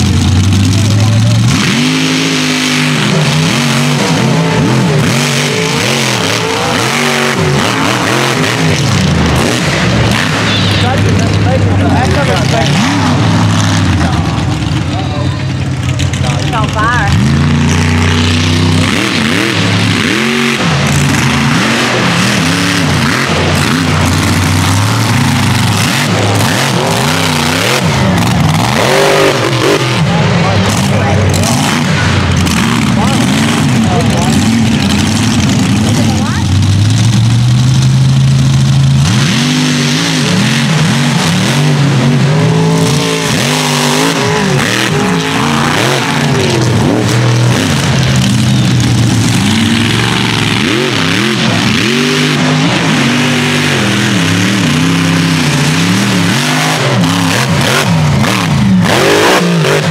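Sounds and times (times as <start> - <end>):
truck engines at full throttle: 0.0 - 59.9
tyres spinning in dirt: 0.0 - 59.9.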